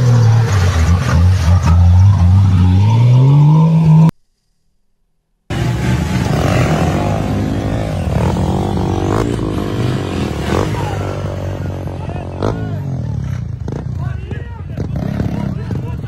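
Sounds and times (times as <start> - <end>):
buggy engine revving: 0.0 - 4.1, 5.5 - 16.0.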